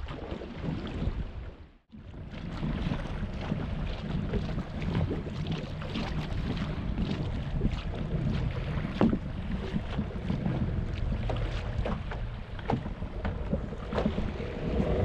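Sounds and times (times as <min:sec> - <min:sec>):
small knocks and splashes: 0:00.0 - 0:15.0
water lapping against boat hull: 0:00.0 - 0:15.0
wind buffeting microphone: 0:00.0 - 0:15.0.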